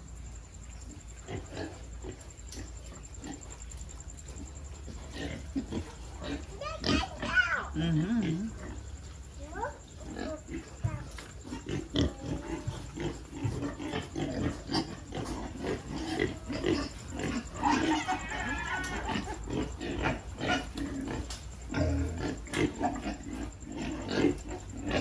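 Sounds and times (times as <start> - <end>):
pigs grunting and oinking: 0.9 - 25.0.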